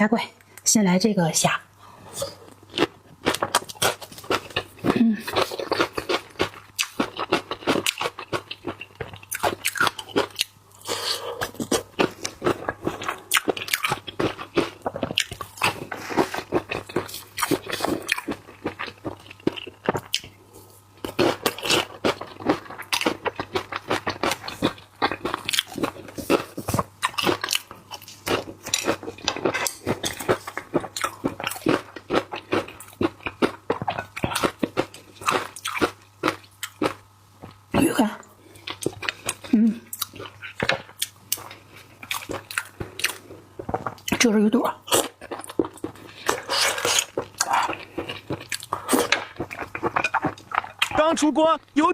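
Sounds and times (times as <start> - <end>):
crunching and chewing shrimp: 2.1 - 51.9.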